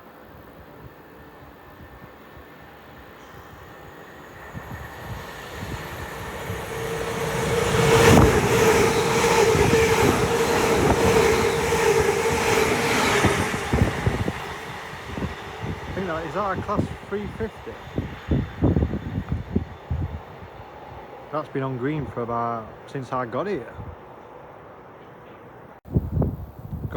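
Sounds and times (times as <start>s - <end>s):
electric train passing: 0.0s - 25.8s.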